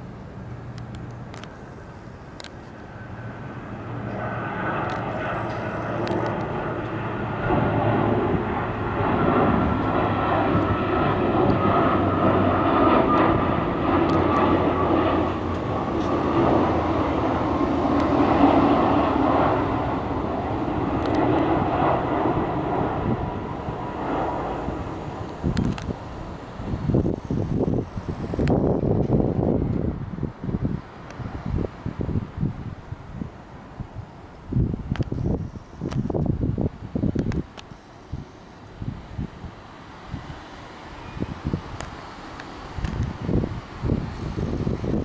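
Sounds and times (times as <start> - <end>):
jet engines passing overhead: 0.0 - 45.0.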